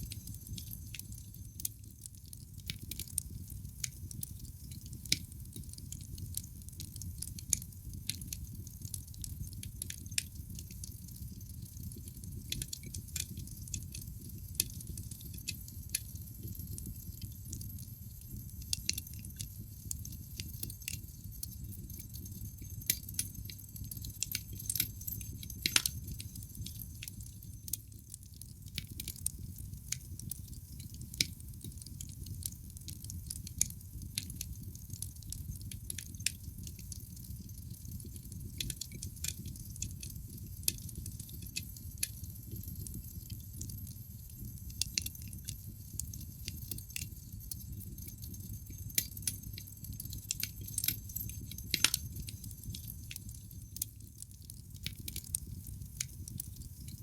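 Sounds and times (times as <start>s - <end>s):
logs crackling and popping: 0.1s - 57.0s.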